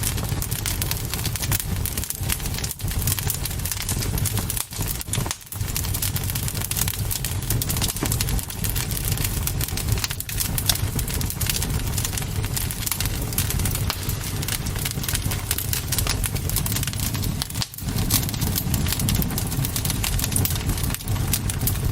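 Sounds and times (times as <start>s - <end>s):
campfire crackling: 0.0s - 21.9s
steady low rumble: 0.0s - 21.9s.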